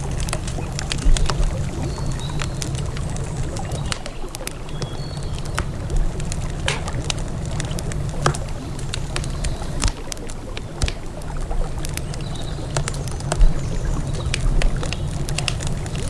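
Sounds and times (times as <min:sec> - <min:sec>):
campfire crackling and popping: 0:00.0 - 0:16.0
river flowing: 0:00.0 - 0:16.0.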